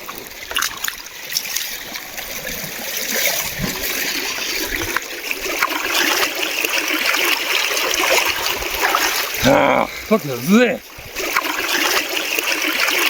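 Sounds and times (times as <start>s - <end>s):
river water trickling over stones: 0.0s - 13.0s
small water splashes: 0.0s - 13.0s.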